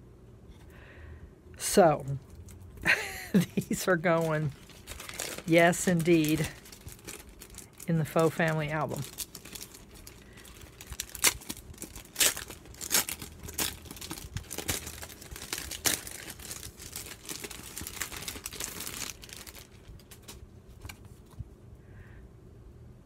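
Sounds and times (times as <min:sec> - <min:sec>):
packaging crinkling and crackling: 0:02.2 - 0:21.5.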